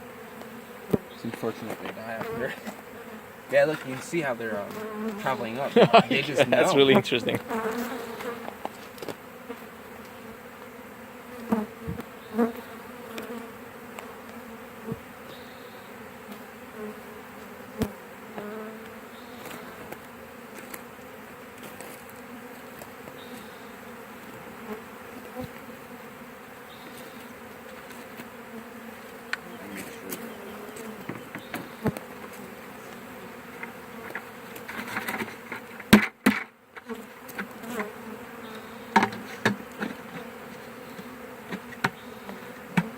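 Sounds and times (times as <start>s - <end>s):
bee swarm buzzing: 0.0s - 42.9s.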